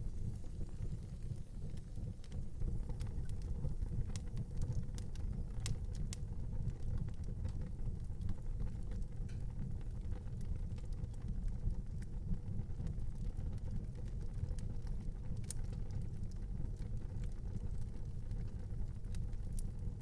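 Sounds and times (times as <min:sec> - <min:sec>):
fire crackles and snaps: 0:00.0 - 0:20.0
fire low rumble: 0:00.0 - 0:20.0.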